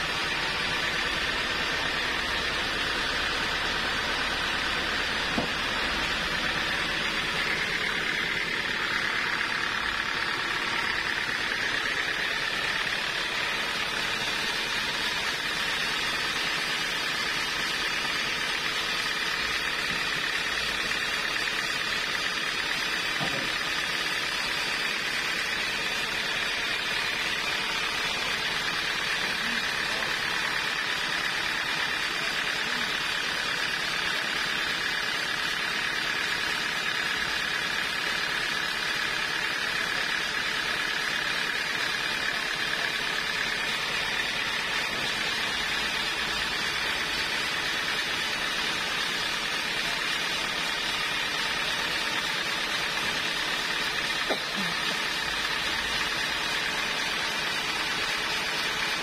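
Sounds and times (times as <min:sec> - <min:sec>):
sawmill machinery whining: 0:00.0 - 0:59.0.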